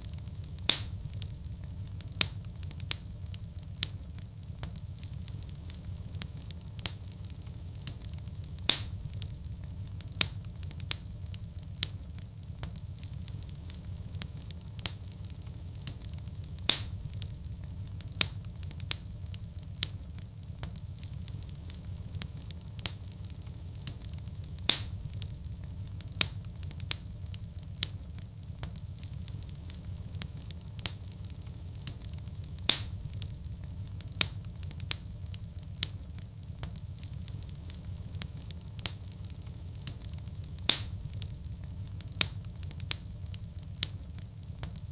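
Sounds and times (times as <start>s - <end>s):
fire crackling: 0.0s - 44.9s
fire popping: 0.0s - 44.9s
flames rumbling: 0.0s - 44.9s.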